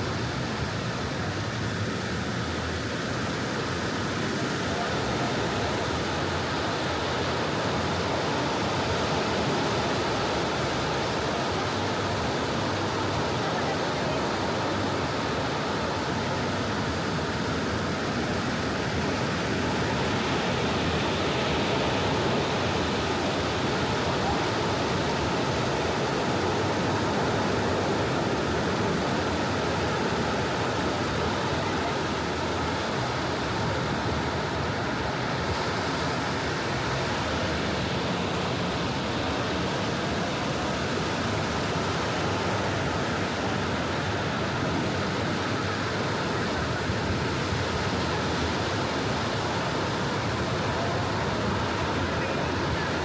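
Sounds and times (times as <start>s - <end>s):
ocean surf washing onto beach: 0.0s - 53.0s.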